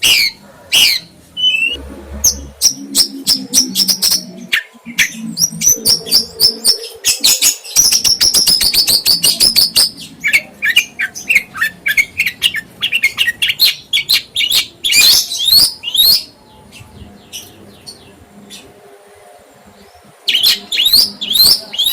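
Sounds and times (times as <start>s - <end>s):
songbird chirping and trilling: 0.0s - 21.9s.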